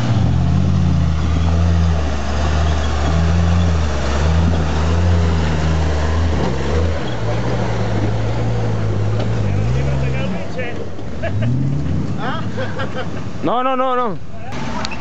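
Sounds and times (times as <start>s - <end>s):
engine running at low revs: 0.0s - 13.1s.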